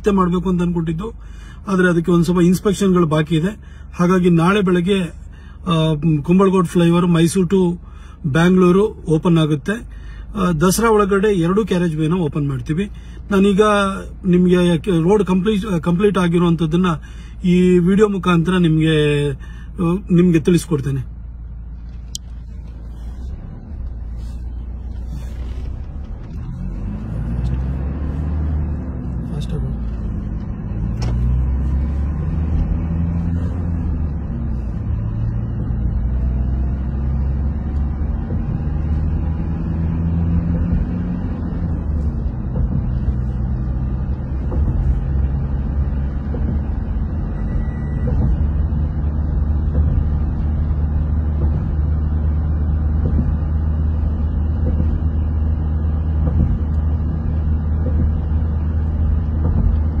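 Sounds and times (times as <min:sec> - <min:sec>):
vehicle engine and tyre rumble: 0:00.0 - 1:00.0.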